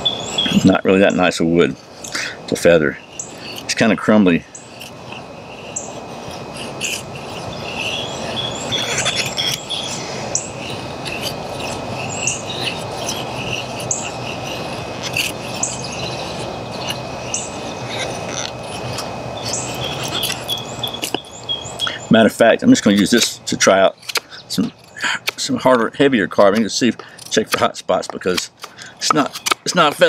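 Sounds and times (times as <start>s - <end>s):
birds chirping: 0.0s - 30.0s
high insect drone: 0.0s - 30.0s
knife shaving wood: 0.0s - 30.0s.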